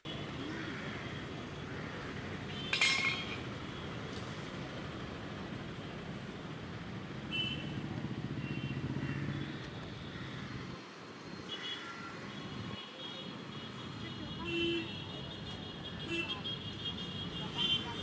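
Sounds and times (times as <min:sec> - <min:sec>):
rumble of passing cars and motorbikes: 0:00.0 - 0:18.0.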